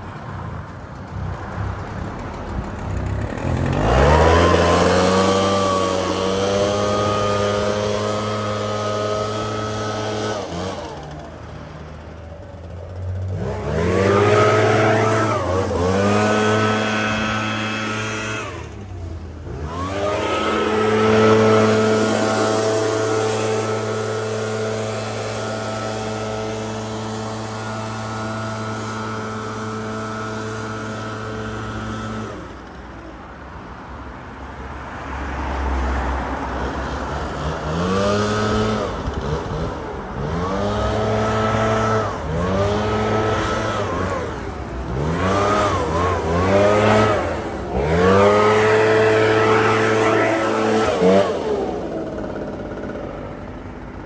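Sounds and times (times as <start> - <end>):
leaf blower engine revving: 2.2 - 33.1, 36.8 - 54.0.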